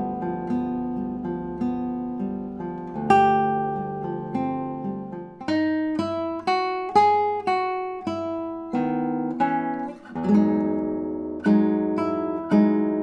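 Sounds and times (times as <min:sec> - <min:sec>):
solo classical guitar: 0:00.0 - 0:13.0.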